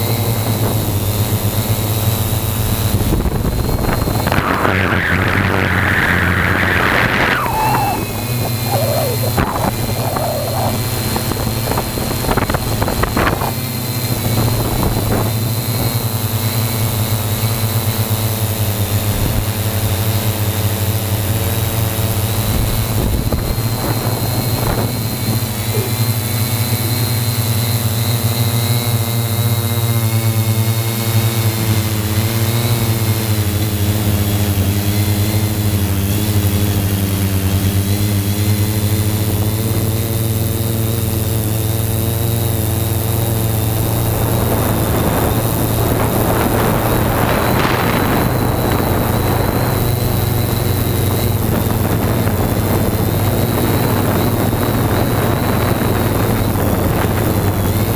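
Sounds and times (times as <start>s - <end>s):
drone motors and propellers: 0.0s - 57.9s.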